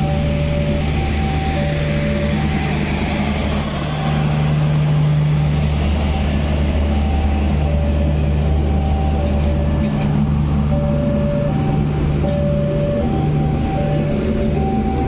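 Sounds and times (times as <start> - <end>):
diesel generator drone: 0.0 - 15.0
rumble of train coaches: 0.0 - 15.0.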